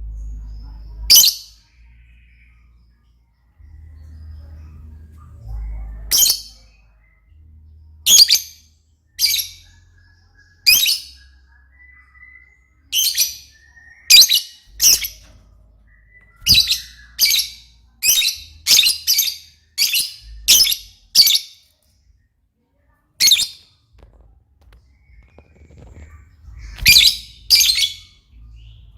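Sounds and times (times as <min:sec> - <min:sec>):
bird chirping: 0:00.0 - 0:21.8, 0:24.6 - 0:28.9.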